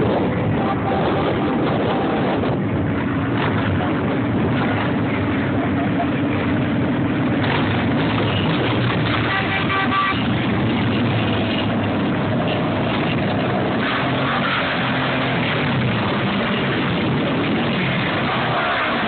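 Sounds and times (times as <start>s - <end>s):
motorcycle engines droning: 0.0s - 19.0s.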